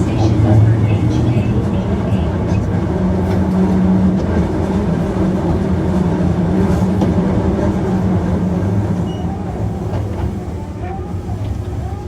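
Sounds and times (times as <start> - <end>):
rail clicks: 0.0 - 12.0
train wheels rumbling on rail: 0.0 - 12.0.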